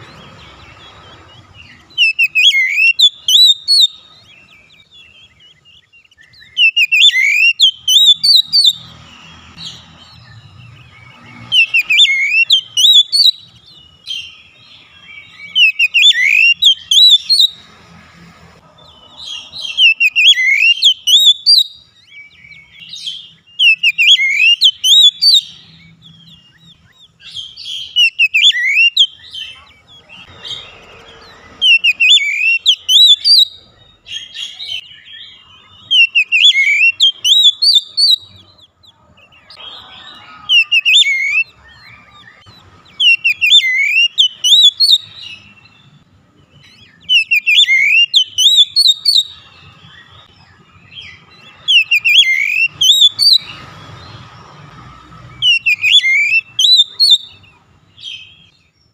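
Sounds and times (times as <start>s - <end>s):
bird singing whistled phrases: 1.6s - 17.6s, 19.3s - 30.8s, 31.6s - 38.5s, 39.3s - 46.0s, 46.6s - 50.3s, 50.9s - 53.6s, 55.4s - 58.6s.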